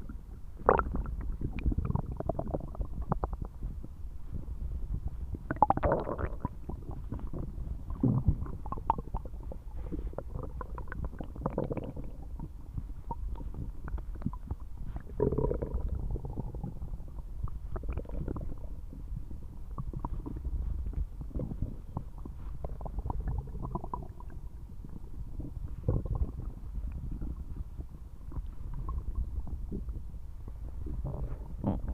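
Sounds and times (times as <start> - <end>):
stomach rumbling and gurgling: 0.0 - 31.9.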